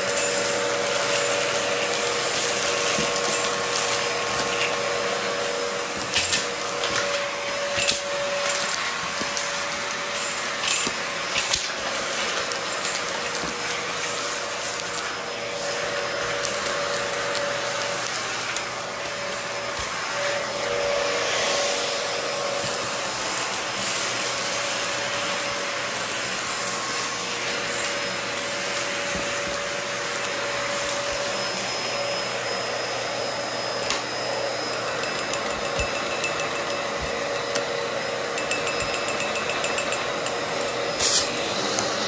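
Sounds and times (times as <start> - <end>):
vacuum cleaner running: 0.0 - 42.0.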